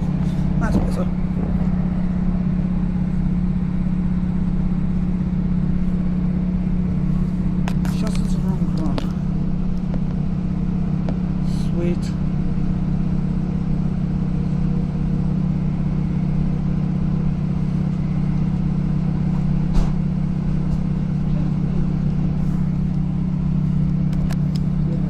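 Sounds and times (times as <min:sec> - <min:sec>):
train engine drone: 0:00.0 - 0:25.0
train running noise: 0:00.0 - 0:25.0.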